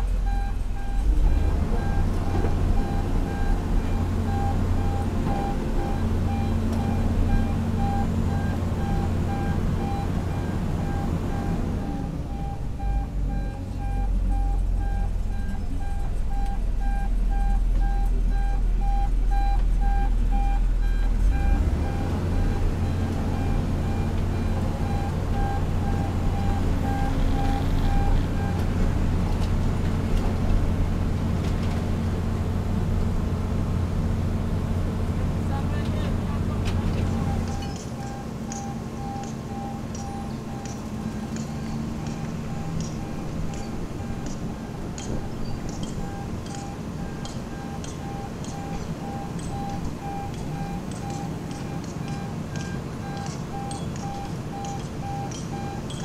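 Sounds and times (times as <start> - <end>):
heavy diesel machinery running: 0.0 - 56.0
electronic warning alarm beeping: 0.2 - 28.7, 37.0 - 56.0.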